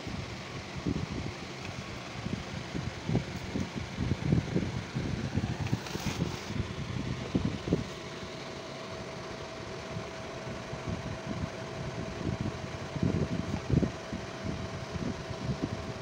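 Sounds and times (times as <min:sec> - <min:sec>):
fan whirring: 0:00.0 - 0:16.0.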